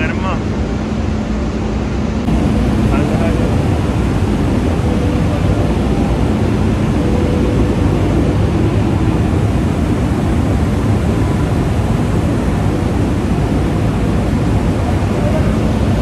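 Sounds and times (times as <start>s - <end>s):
faint steady hum: 0.0s - 16.0s
machinery rumbling: 0.0s - 16.0s.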